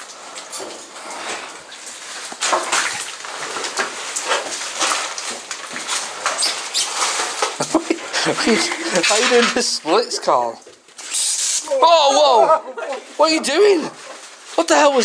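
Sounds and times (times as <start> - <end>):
footsteps crunching plastic bottles: 0.0 - 11.0, 11.8 - 15.0.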